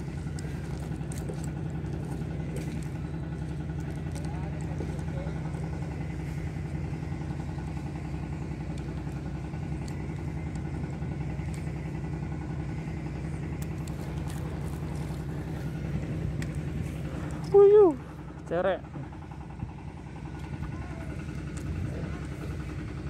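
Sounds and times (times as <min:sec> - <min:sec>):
engine droning steadily: 0:00.0 - 0:23.0.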